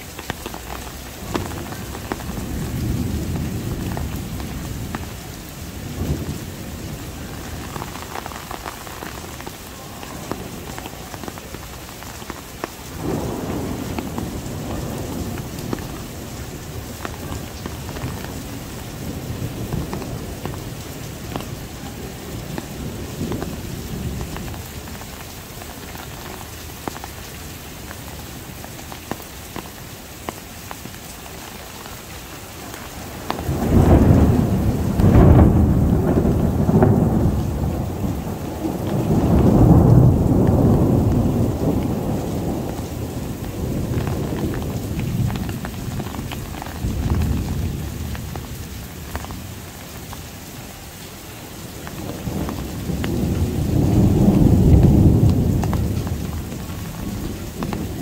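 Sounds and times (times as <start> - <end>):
thunder rumbling: 0.0 - 29.7, 32.4 - 50.1, 51.6 - 58.0
heavy rain hissing: 0.0 - 58.0.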